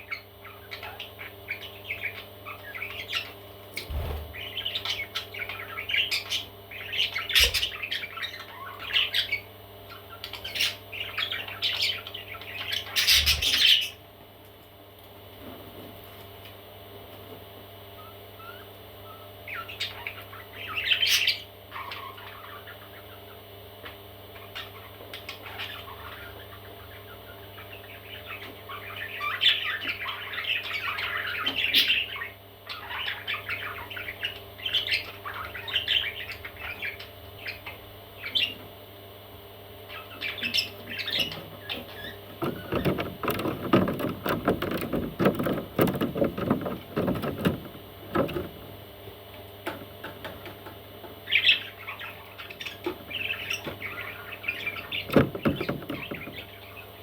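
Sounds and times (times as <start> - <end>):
faint steady hum: 0.0 - 57.0
baby parrots squawking and chirping: 0.1 - 14.0, 18.4 - 23.3, 24.4 - 38.6, 39.9 - 48.5, 51.3 - 57.0.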